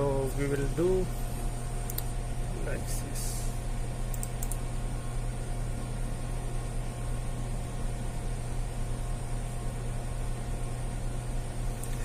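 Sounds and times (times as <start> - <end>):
machinery humming and hissing: 0.0 - 12.0.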